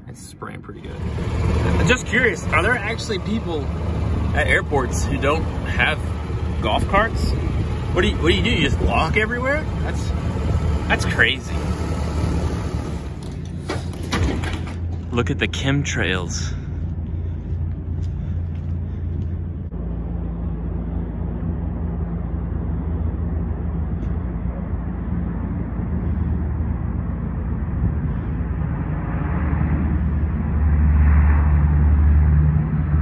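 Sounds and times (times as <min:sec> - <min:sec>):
turboprop aircraft drone: 0:00.0 - 0:33.0.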